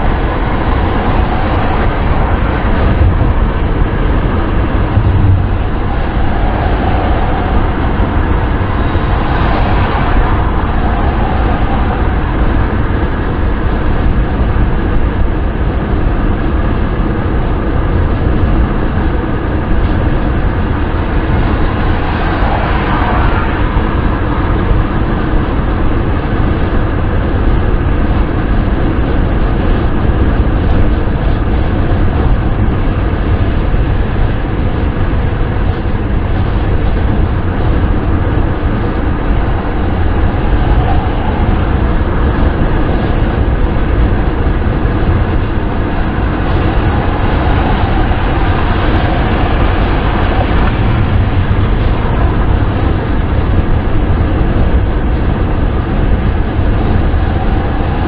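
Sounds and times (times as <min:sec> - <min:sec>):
car wind and road noise: 0:00.0 - 0:58.0.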